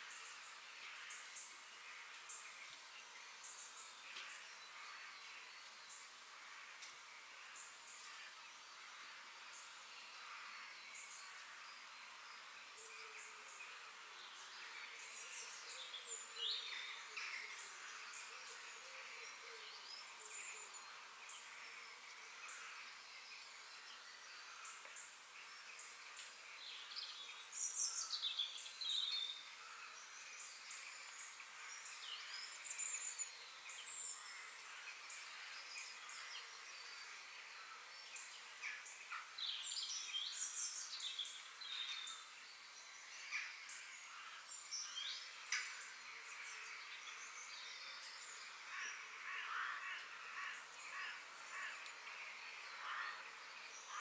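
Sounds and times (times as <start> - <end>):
high hiss of insects: 0.0 - 54.0
songbirds chirping: 0.0 - 54.0.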